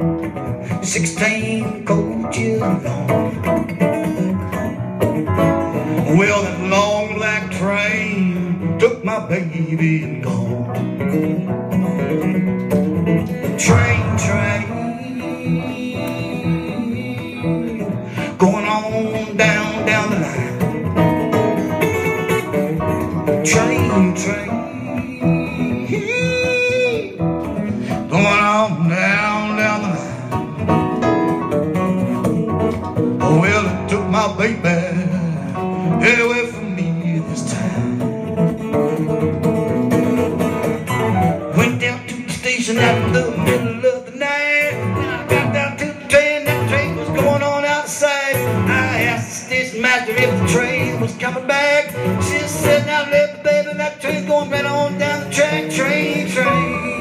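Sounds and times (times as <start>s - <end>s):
acoustic guitar strumming: 0.0s - 57.0s
man singing: 0.4s - 4.9s, 5.5s - 12.4s, 13.3s - 39.2s, 39.9s - 57.0s.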